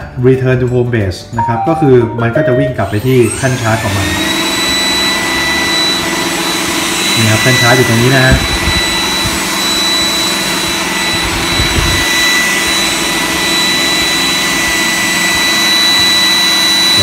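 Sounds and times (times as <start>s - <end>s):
robot vacuum fan whining: 2.7s - 17.0s.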